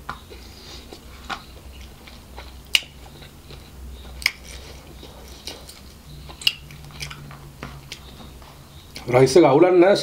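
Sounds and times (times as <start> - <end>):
chewing and picking food: 0.0 - 9.2
low steady hum: 0.0 - 10.0.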